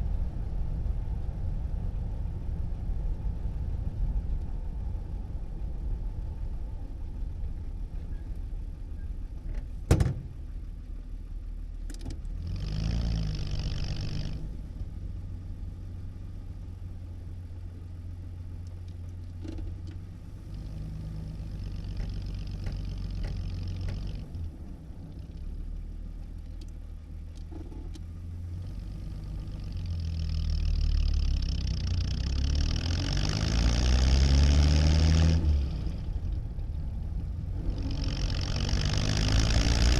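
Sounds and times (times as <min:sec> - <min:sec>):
car engine idling and accelerating: 0:00.0 - 0:39.9.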